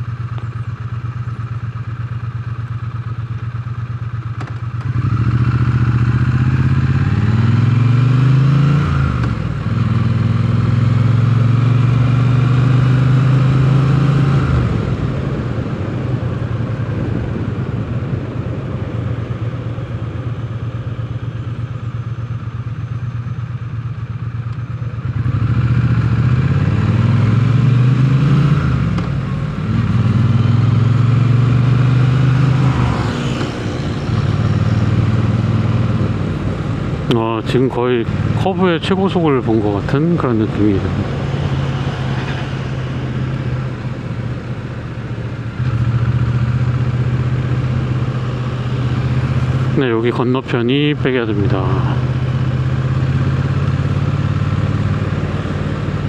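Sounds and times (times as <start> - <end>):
motorcycle engine revving through gears: 0.0 - 17.8, 20.2 - 56.0.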